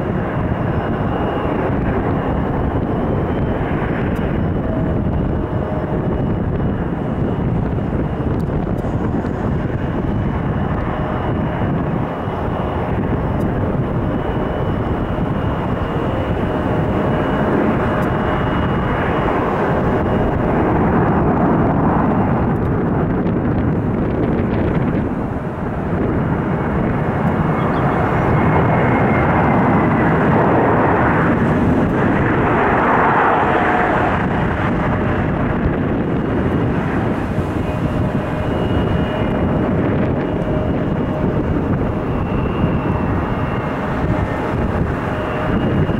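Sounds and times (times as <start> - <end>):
jet engines roaring: 0.0 - 45.9
thin jet engine whine: 0.0 - 45.9.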